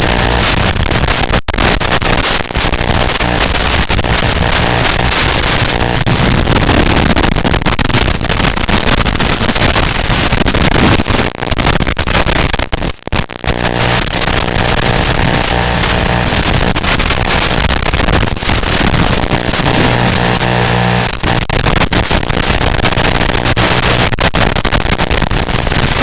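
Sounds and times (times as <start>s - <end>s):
radio static hiss and buzz: 0.0s - 26.0s.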